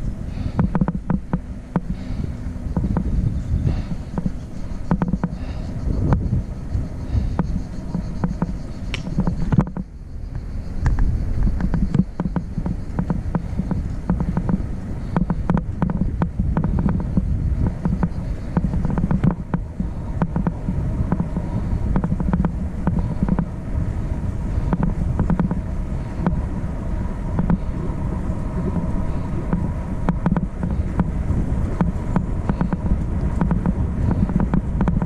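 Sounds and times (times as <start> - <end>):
vehicle rumbling: 0.0 - 35.0.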